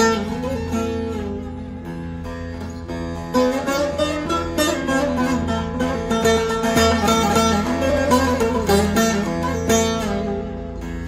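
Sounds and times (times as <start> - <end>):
fast lute strumming: 0.0 - 11.0
plucked lute notes: 0.0 - 11.0.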